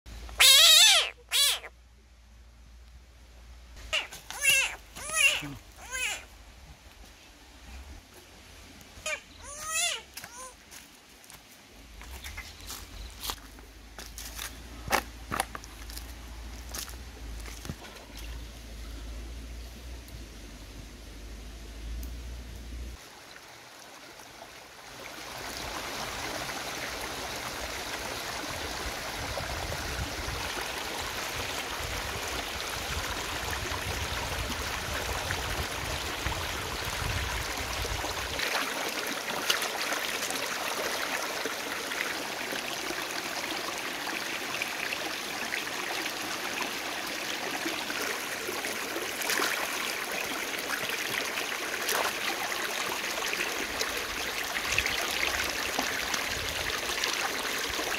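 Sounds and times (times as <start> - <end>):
stream running over rocks: 3.8 - 19.9, 22.9 - 57.9.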